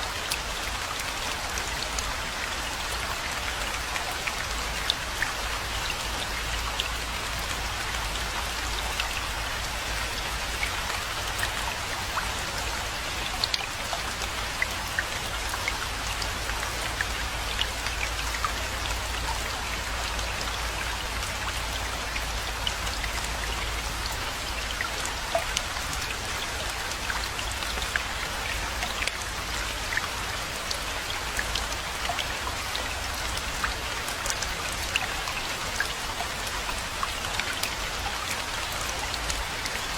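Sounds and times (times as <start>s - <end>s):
raindrops pattering: 0.0s - 39.9s
steady rainfall: 0.0s - 39.9s.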